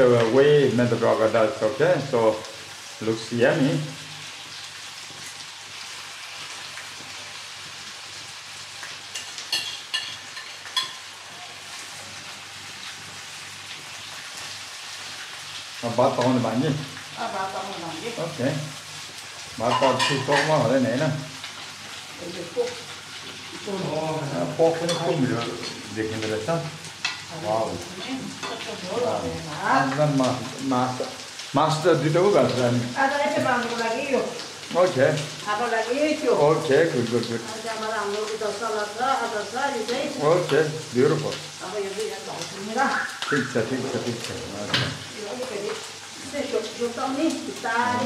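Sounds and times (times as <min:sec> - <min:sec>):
fish sizzling in a pan: 0:00.0 - 0:48.0.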